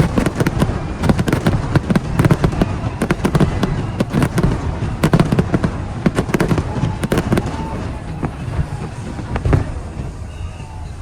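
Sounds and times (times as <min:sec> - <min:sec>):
fireworks bangs and crackles: 0:00.0 - 0:11.0
low rumble of fireworks: 0:00.0 - 0:11.0.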